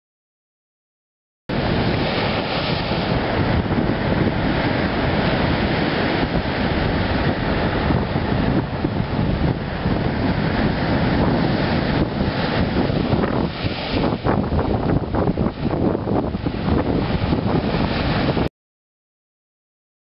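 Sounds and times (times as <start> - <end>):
surf breaking on rocky shore: 1.5 - 18.5
wind buffeting microphone: 1.5 - 18.5.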